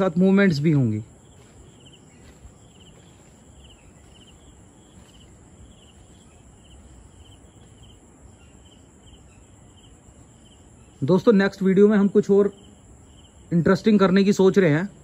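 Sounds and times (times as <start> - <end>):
insect chirping: 0.0 - 15.0
outdoor background hiss: 0.0 - 15.0.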